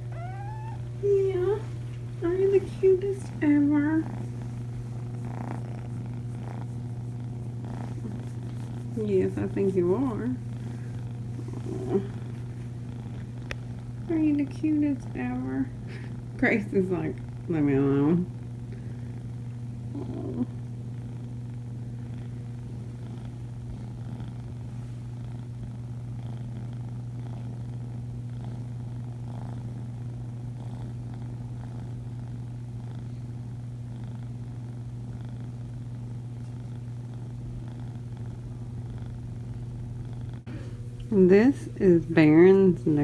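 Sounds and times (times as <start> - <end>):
kitten purring: 0.0 - 43.0.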